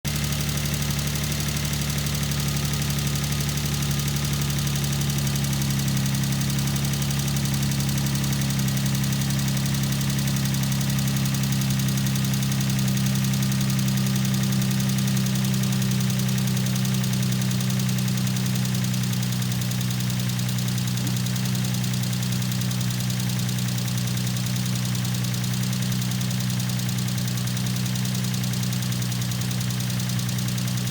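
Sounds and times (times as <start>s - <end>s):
car engine running: 0.1s - 30.9s
engine ticking: 0.1s - 30.9s.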